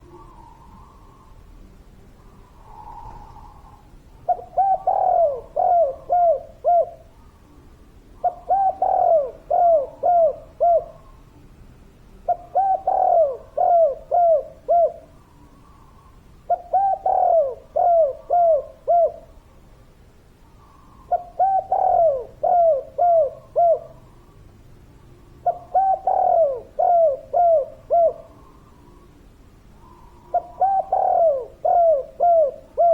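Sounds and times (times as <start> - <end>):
dove cooing: 0.0 - 1.4, 2.4 - 7.6, 8.2 - 11.3, 12.2 - 19.4, 20.6 - 24.4, 25.2 - 32.9.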